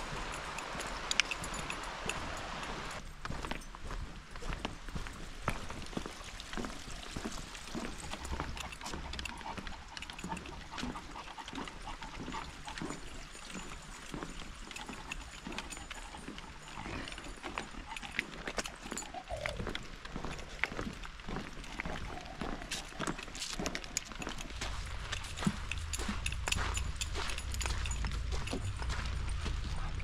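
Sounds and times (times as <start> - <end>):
dog paws on planks: 0.0 - 30.0
footsteps on wooden boardwalk: 0.0 - 30.0.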